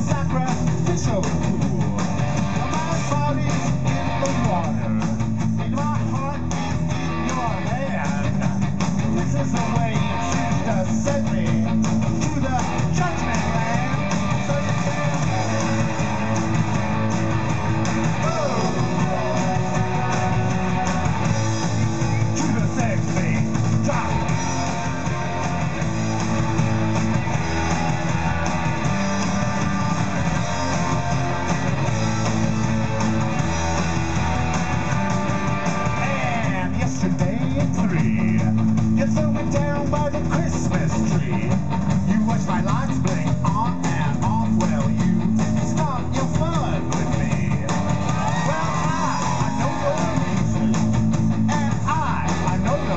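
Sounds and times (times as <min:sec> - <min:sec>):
electric guitars: 0:00.0 - 0:52.9
live rock band playing: 0:00.0 - 0:52.9.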